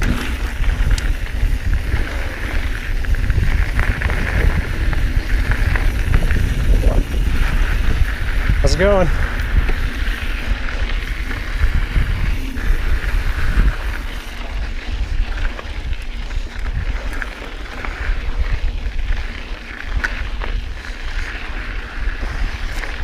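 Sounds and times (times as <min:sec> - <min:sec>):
bike clicks and rattles: 0:00.0 - 0:23.0
tyres rolling over dirt: 0:00.0 - 0:23.0
wind rumbling on microphone: 0:00.0 - 0:23.0.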